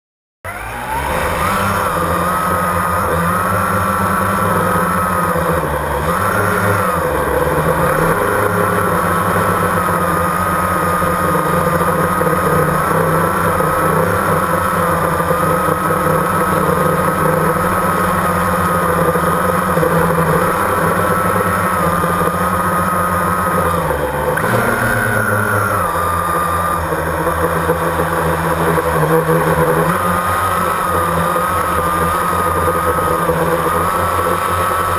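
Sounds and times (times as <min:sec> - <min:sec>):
drone motors whining: 0:00.4 - 0:34.9.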